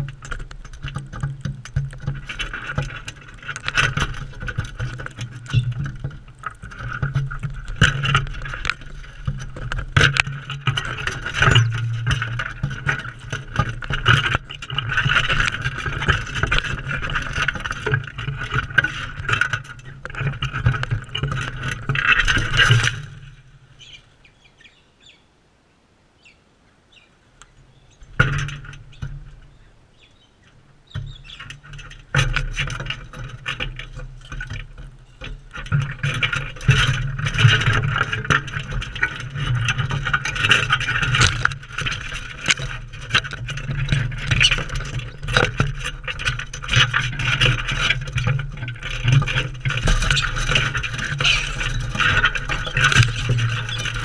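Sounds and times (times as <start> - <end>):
birds scraping and clicking at feeder: 0.0 - 24.7, 27.4 - 54.0.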